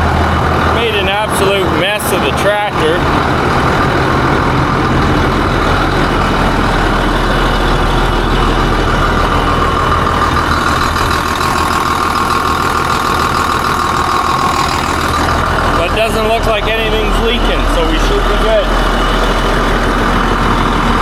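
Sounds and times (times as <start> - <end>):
diesel tractor engine running: 0.0 - 21.0
engine whine: 0.0 - 21.0.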